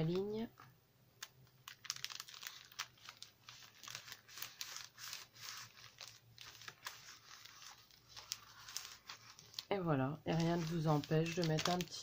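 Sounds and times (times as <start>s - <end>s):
paper rustling and crinkling: 1.2s - 12.0s.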